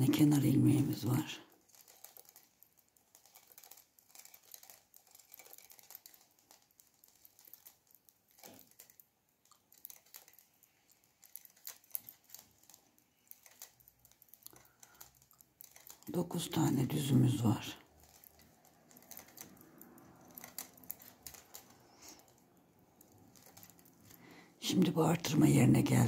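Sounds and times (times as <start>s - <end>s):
knitting needles clicking: 0.0s - 26.0s
yarn rustling: 0.0s - 26.0s.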